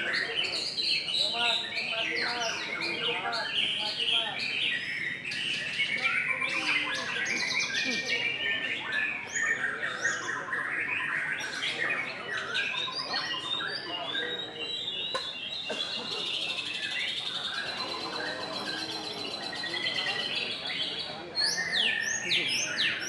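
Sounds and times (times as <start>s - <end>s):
birds singing: 0.0s - 23.0s.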